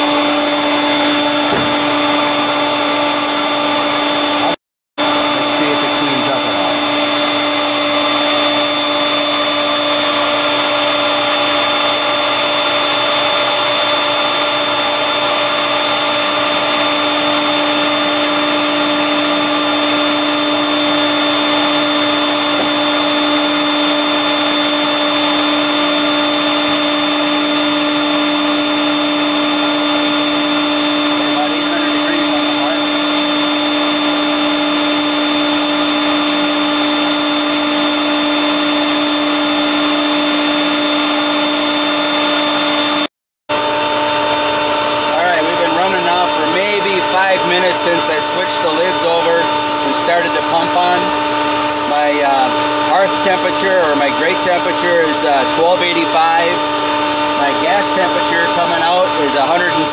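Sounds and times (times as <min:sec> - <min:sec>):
electric blower whining: 0:00.0 - 0:59.9.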